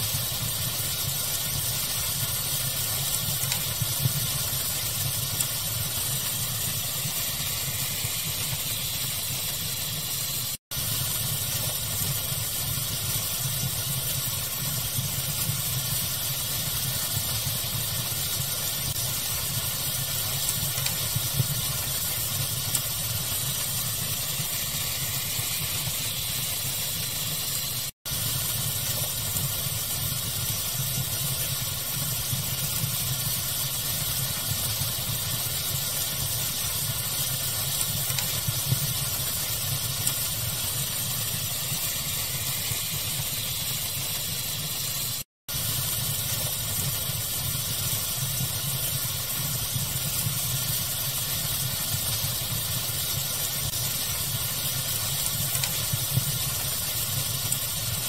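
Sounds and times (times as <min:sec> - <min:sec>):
fire crackling: 0:00.0 - 0:58.0
steady hiss: 0:00.0 - 0:58.0.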